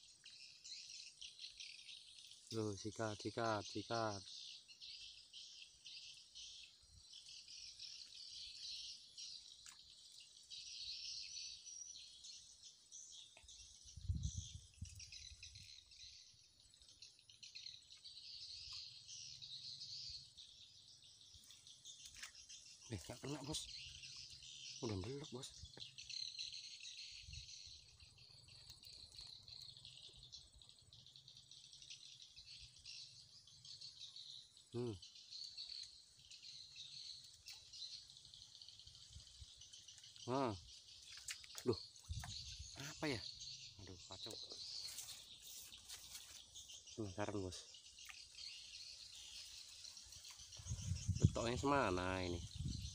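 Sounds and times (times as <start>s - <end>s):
insects chirring in pulsing chorus: 0.0s - 52.9s.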